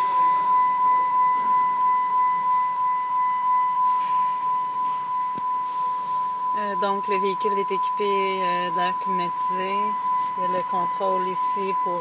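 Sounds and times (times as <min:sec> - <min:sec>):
dashboard warning chime: 0:00.0 - 0:12.0.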